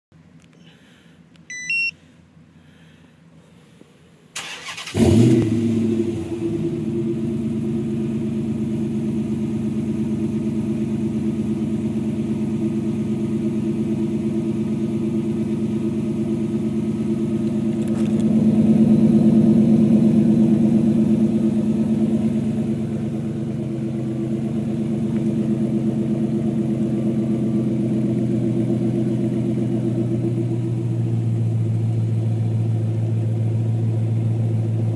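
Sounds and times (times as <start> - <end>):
car exhaust idling: 4.9 - 34.9.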